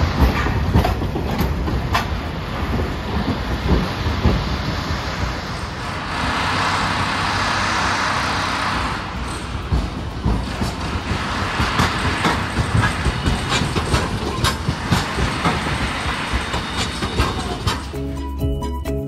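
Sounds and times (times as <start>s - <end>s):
wheels clacking over rail joints: 0.0s - 18.7s
streetcar rushing past: 0.0s - 19.0s.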